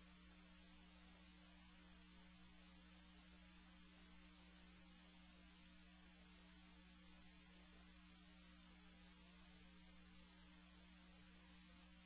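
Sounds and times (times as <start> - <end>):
faint electrical hum: 0.0 - 12.0
low hiss: 0.0 - 12.0.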